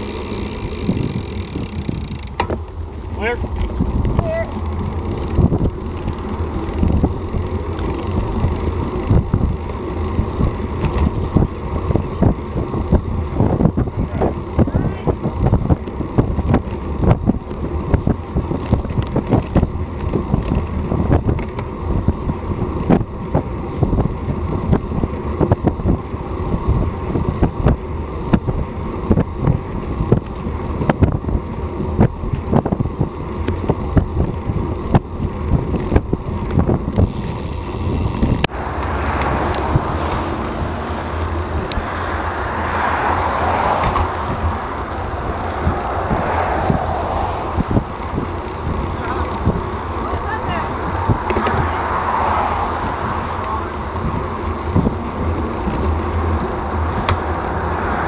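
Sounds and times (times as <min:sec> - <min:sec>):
tyre and road noise: 0:00.0 - 0:58.0
wind buffeting microphone: 0:00.0 - 0:58.0.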